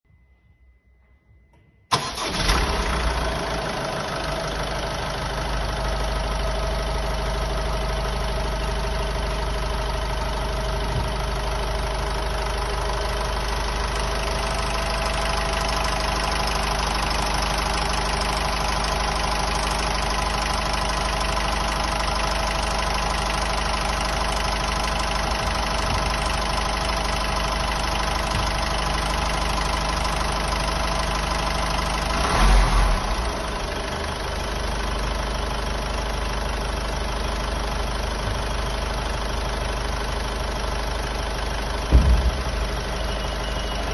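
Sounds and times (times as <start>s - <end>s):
diesel car engine idling: 1.9s - 43.9s.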